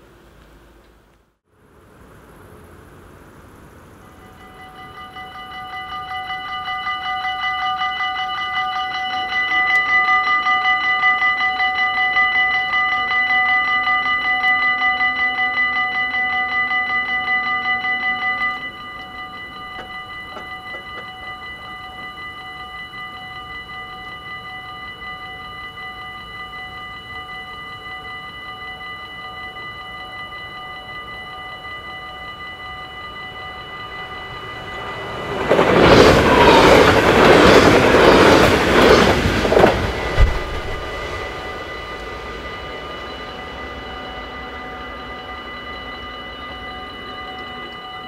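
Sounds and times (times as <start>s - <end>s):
level crossing bell ringing: 4.0s - 37.6s, 40.8s - 48.0s.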